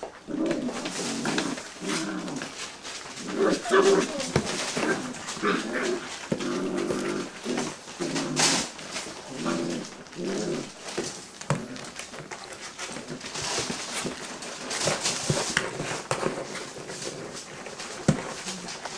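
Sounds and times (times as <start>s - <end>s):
puppies growling: 0.0s - 18.9s
puppies scuffling: 0.0s - 18.9s.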